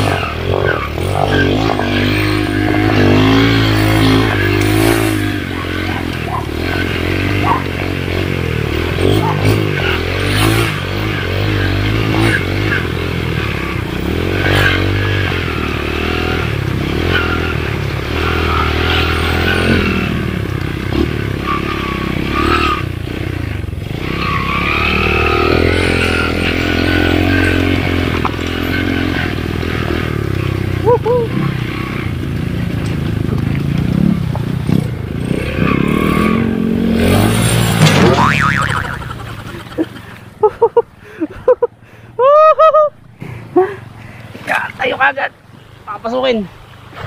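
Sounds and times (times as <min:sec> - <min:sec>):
dirt bike engine revving: 0:00.0 - 0:40.7.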